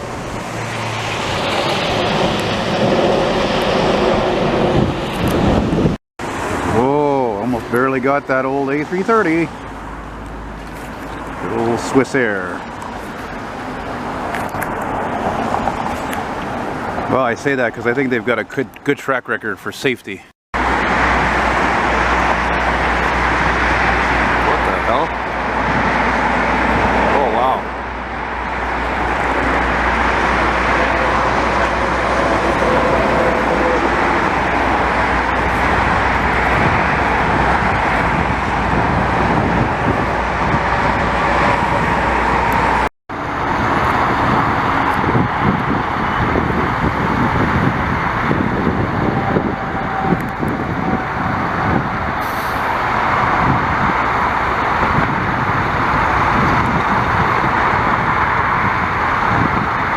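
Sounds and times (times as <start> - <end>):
wind rumbling on microphone: 0.0 - 17.2, 20.6 - 59.9
highway traffic: 0.0 - 59.9.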